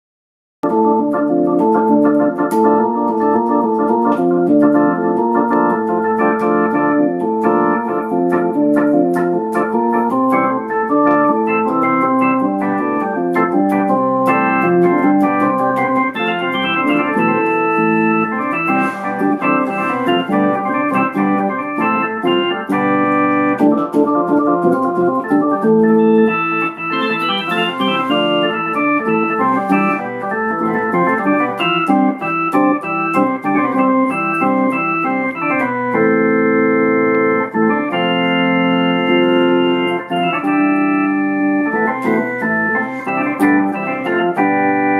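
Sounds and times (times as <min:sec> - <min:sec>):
keyboard organ chords and melody: 0:00.6 - 0:44.9.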